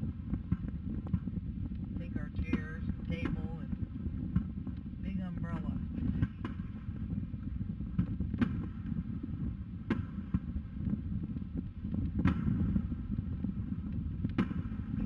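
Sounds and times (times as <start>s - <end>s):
distant fireworks booms: 0.0s - 15.0s
steady low rumble: 0.0s - 15.0s.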